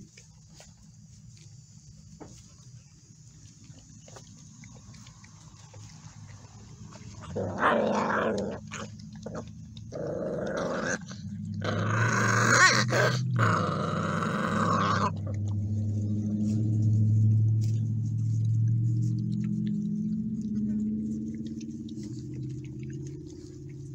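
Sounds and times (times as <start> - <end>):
puppies growling: 3.0 - 23.9.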